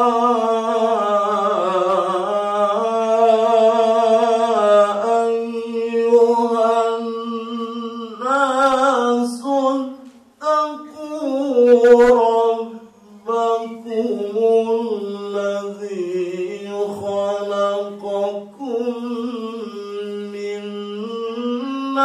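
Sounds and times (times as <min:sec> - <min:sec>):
man chanting into a microphone: 0:00.0 - 0:22.0.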